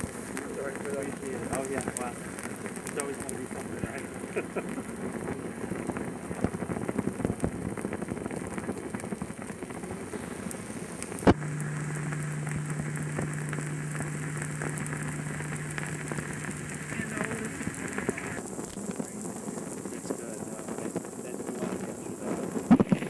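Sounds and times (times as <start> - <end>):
flames crackling and popping: 0.0 - 23.0
steady low hum: 0.0 - 23.0.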